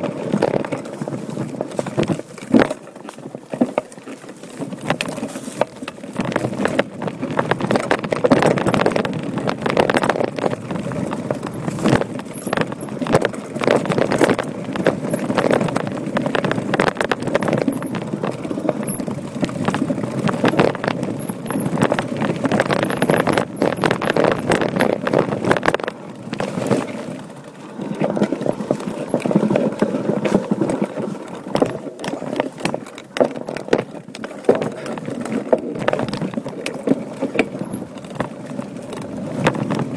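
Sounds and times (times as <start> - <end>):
mountain bike rattling over stones: 0.0 - 39.9.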